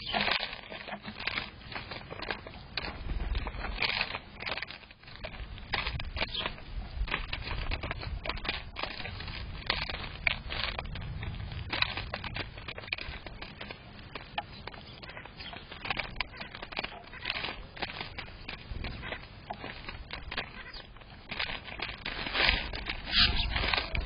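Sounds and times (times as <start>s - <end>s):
sparrows cracking seeds: 0.0s - 24.0s.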